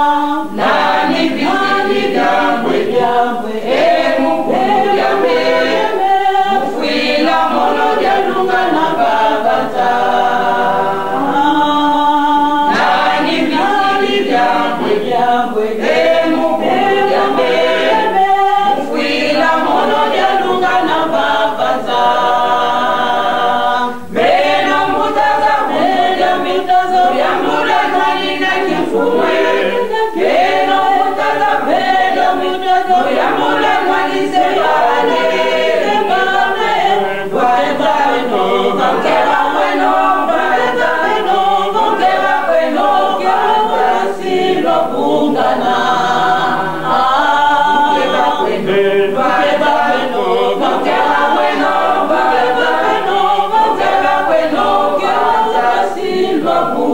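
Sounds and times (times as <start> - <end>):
choir singing a hymn: 0.0 - 56.9.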